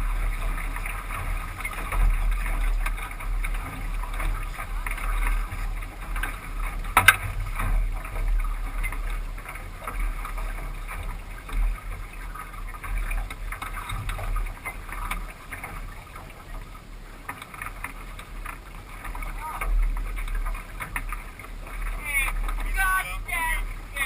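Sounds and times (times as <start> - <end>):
water splashing and lapping: 0.0 - 24.0.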